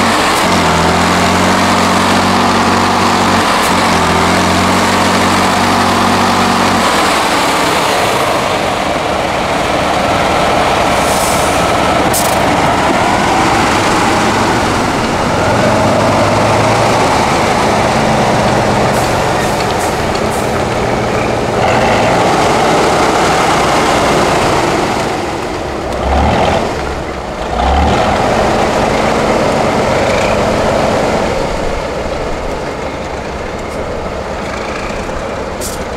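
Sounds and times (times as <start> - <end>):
diesel truck engine revving: 0.0 - 35.9.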